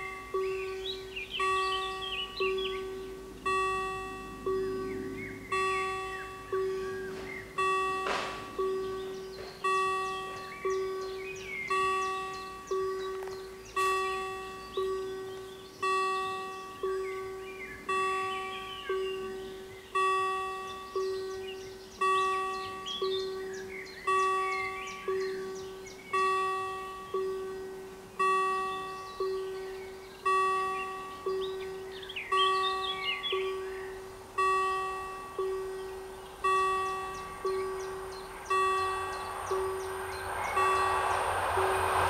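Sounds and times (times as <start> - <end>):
level crossing bells ringing: 0.0 - 42.0.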